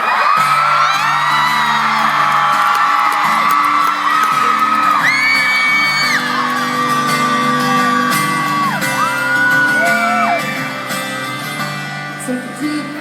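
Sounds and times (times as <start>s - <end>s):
long high-pitched screams: 0.0s - 10.6s
crowd screaming: 0.0s - 11.0s
guitar playing song intro: 0.4s - 13.0s.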